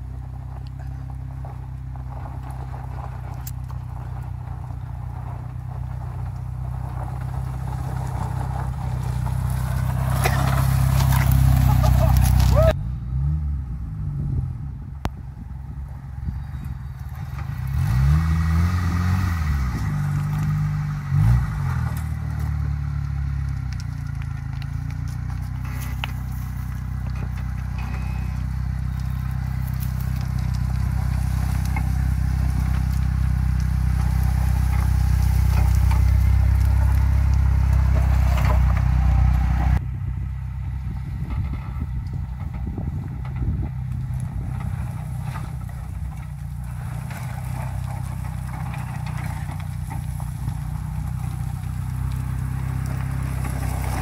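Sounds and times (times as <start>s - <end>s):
scraping and crackling: 0.0s - 12.8s, 16.4s - 39.8s, 41.2s - 54.0s
engine revving and straining: 0.0s - 54.0s.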